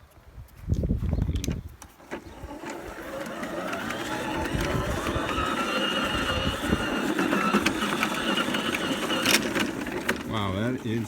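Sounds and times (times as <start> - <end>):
electric lawn mower whine: 1.9 - 11.0.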